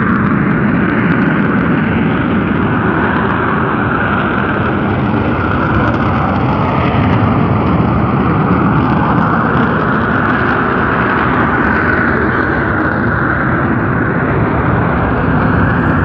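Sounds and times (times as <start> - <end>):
volcanic gas venting rumble: 0.0 - 16.0.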